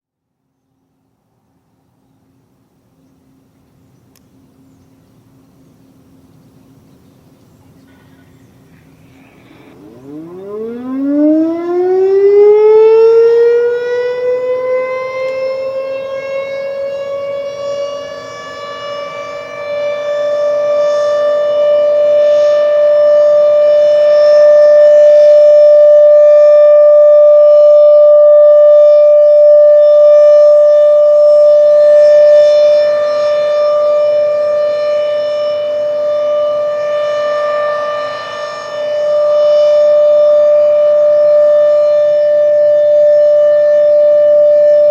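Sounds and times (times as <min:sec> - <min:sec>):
warning siren wailing: 0:08.6 - 0:44.9.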